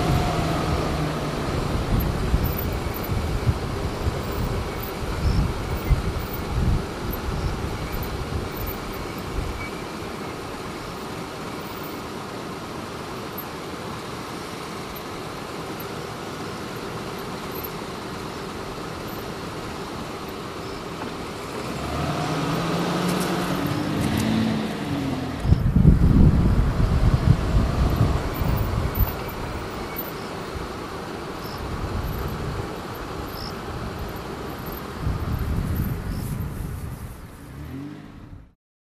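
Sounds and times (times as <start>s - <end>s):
car engines: 0.0s - 38.6s.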